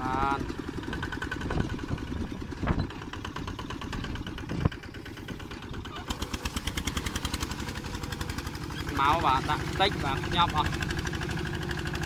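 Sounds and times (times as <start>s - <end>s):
tractor engine pulsing: 0.0s - 12.0s.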